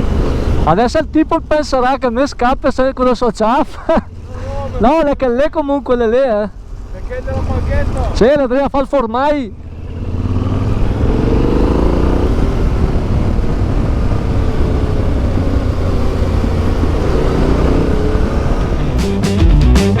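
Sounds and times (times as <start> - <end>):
motorcycle engine accelerating: 0.0 - 2.5, 3.8 - 20.0.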